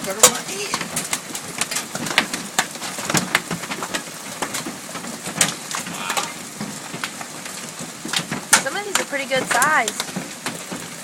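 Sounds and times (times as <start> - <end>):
hailstones striking hard surfaces: 0.0 - 11.0
rain hiss: 0.0 - 11.0.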